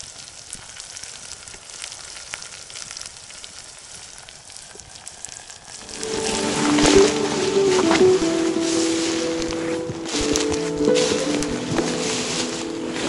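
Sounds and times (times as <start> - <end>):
food frying sizzle: 0.0 - 13.0.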